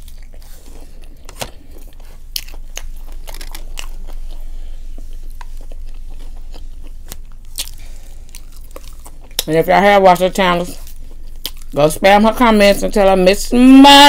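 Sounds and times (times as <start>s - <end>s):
person chewing and biting food: 0.0s - 11.8s
food crunching: 0.0s - 12.8s.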